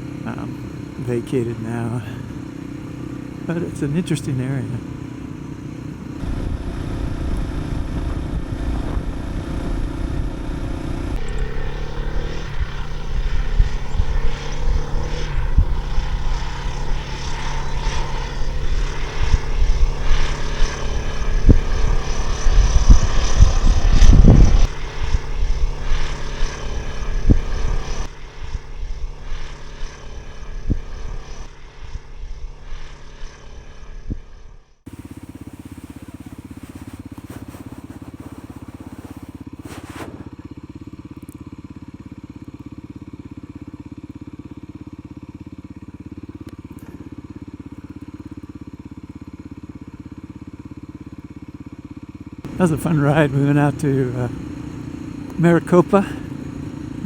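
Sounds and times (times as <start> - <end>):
motorcycle engine running: 0.0 - 34.0, 34.9 - 57.0.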